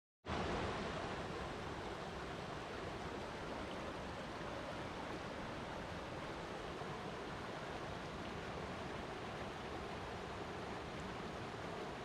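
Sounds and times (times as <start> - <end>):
flowing water: 0.3 - 12.0.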